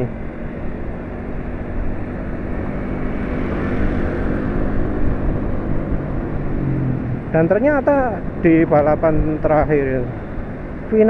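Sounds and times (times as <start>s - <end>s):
scooter engine humming: 0.0s - 11.0s
wind rush on microphone: 0.7s - 11.0s.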